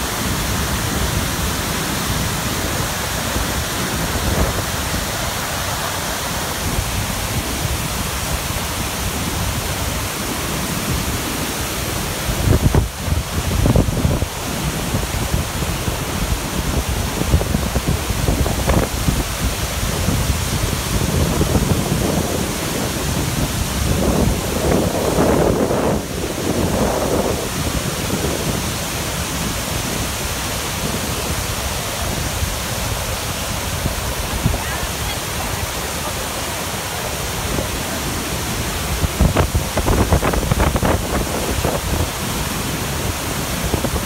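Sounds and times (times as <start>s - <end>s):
waterfall rushing over rock: 0.0s - 44.0s.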